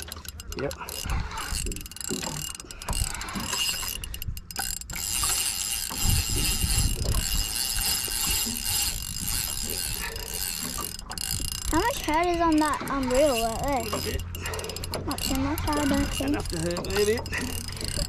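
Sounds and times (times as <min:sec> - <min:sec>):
fishing reel clicking and whirring: 0:00.0 - 0:18.0.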